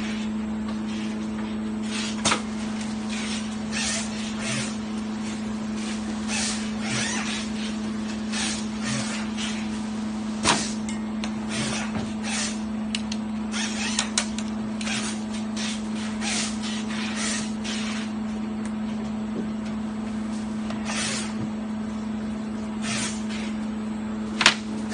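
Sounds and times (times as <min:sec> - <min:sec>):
machine hum: 0:00.0 - 0:24.9.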